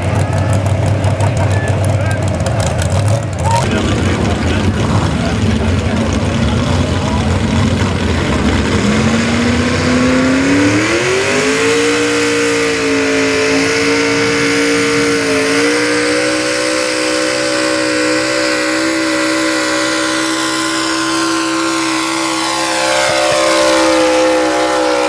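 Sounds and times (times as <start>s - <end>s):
pulling truck engine revving: 0.0s - 25.0s.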